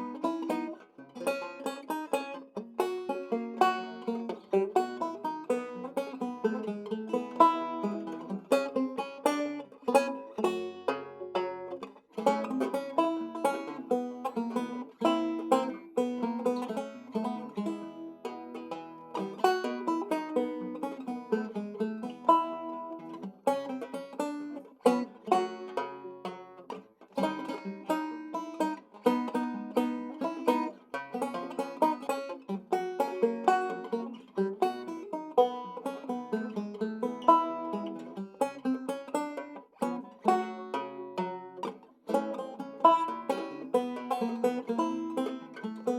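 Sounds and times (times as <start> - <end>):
fingerpicked guitar banjo ragtime: 0.0 - 45.9.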